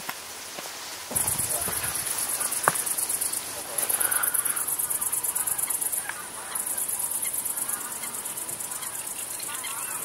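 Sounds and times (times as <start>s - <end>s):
crickets chirping: 0.2s - 10.0s
faint bird calls: 1.1s - 10.0s.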